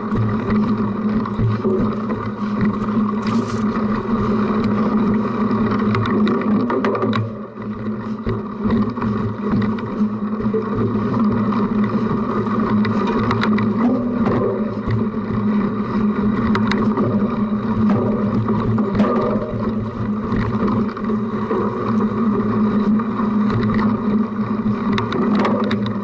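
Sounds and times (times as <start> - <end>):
bike rattling clicks: 0.0 - 26.0
bike tyres rumbling on rough ground: 0.0 - 26.0.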